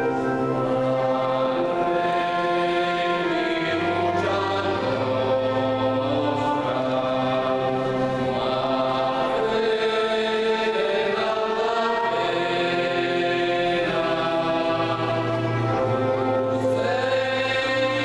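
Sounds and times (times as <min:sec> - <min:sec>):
choir singing long held chords: 0:00.0 - 0:18.0.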